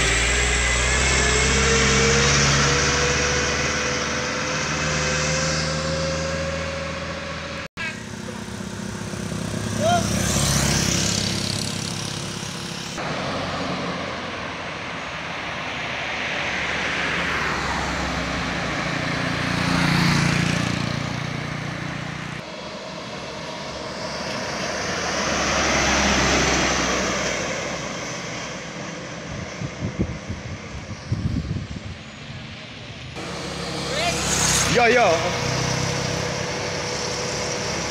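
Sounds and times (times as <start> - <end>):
car passing: 0.0 - 37.9
motorcycles passing: 0.0 - 37.9
trucks passing: 0.0 - 37.9.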